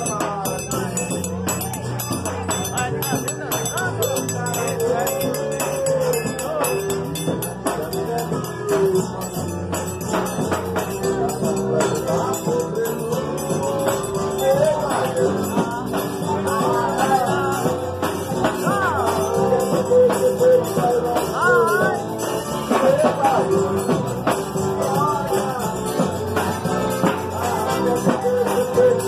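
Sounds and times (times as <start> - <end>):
jingling percussion: 0.0 - 29.0
live band dance music: 0.0 - 29.0
person singing: 0.0 - 29.0.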